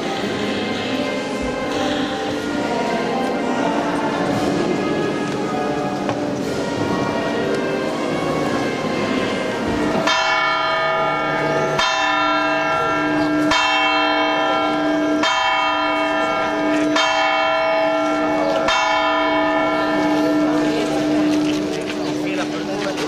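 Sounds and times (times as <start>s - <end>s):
church bell tolling: 0.0s - 23.0s.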